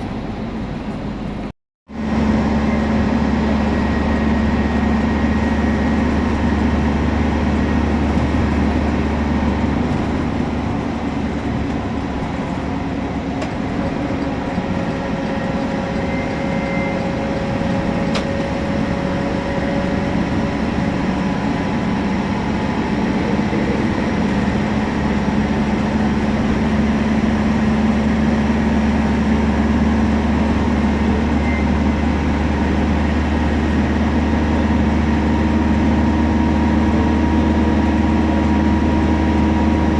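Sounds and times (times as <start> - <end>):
diesel engine hum: 0.0 - 39.9.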